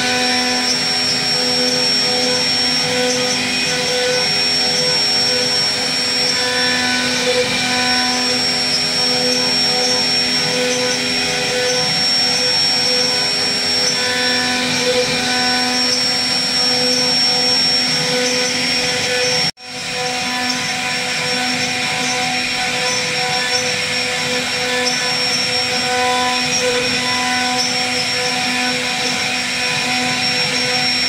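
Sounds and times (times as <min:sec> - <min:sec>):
router spindle whine: 0:00.0 - 0:31.0.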